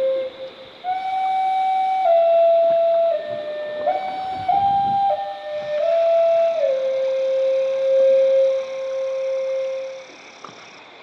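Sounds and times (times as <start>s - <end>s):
flute playing slow melody: 0.0s - 10.2s.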